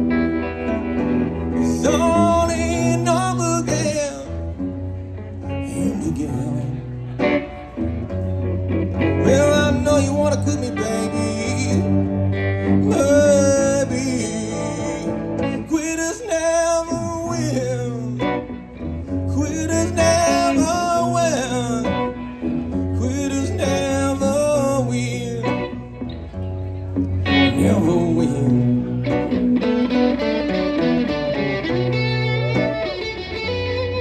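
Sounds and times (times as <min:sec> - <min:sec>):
electric guitars playing blues: 0:00.0 - 0:34.0.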